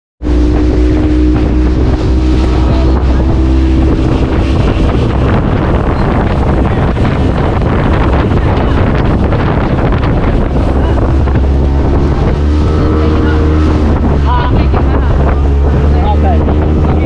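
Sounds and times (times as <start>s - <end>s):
speedboat engine running: 0.2s - 17.0s
wind buffeting microphone: 0.2s - 17.0s.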